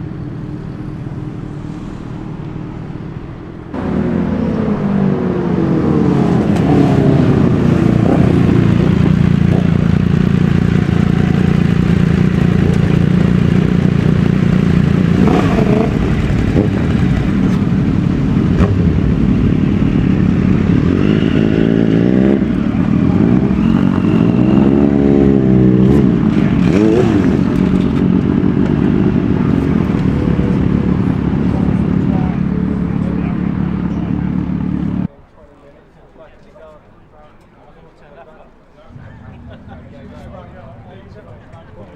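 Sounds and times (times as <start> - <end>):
motorcycle engines revving: 0.0 - 35.1, 38.9 - 41.9.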